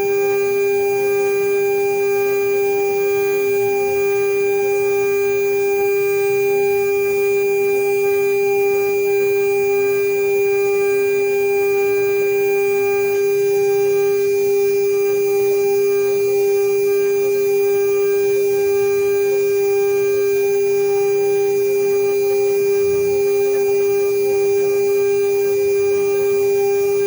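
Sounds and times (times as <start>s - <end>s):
router spindle whine: 0.0s - 27.0s.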